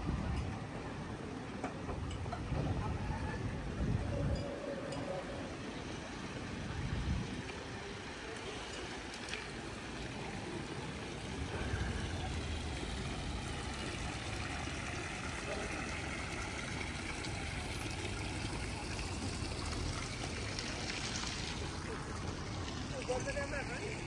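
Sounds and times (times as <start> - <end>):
street noise: 0.0 - 24.0
fountain water splashing into basin: 4.6 - 24.0.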